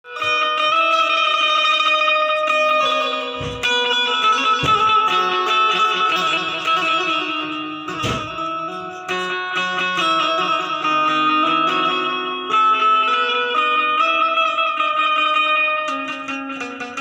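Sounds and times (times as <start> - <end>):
plucked metal-string melody: 0.0 - 17.0.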